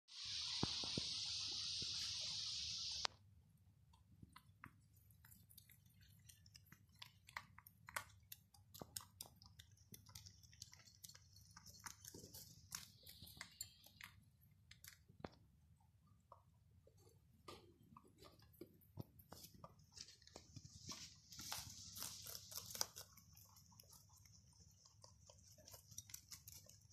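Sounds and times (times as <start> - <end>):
rabbits crunching greens: 3.8 - 26.9.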